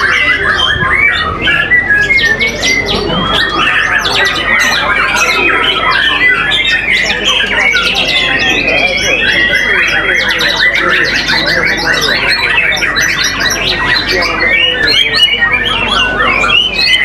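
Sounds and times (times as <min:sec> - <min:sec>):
birds singing in chorus: 0:00.0 - 0:17.0.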